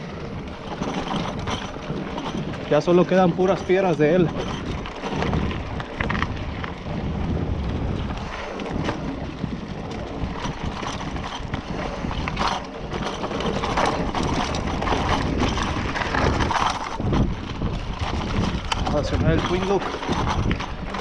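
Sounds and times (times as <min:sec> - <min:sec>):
bike knocking and rattling: 0:00.0 - 0:21.0
bike tyres crunching on dirt: 0:00.0 - 0:21.0
wind on microphone: 0:00.0 - 0:21.0.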